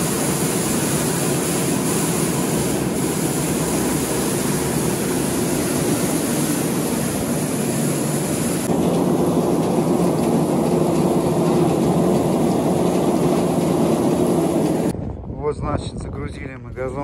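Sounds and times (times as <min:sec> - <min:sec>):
grain loader mechanical din: 0:00.0 - 0:14.9.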